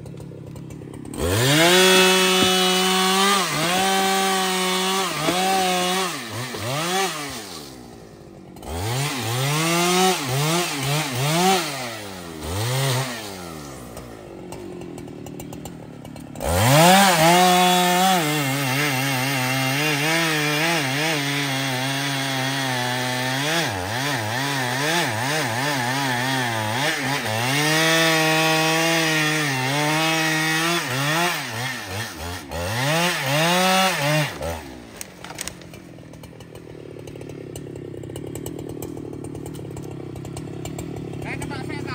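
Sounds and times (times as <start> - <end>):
chainsaw revving and cutting: 0.0 - 41.9.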